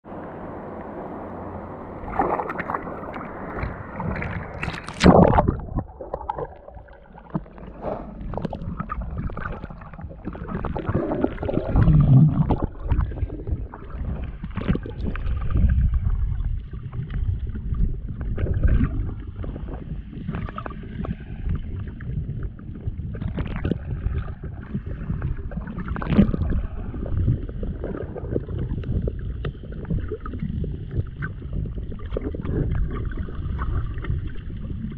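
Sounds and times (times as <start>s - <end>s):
muffled underwater gurgling and sloshing: 0.1s - 34.9s
rush of water: 0.1s - 34.9s.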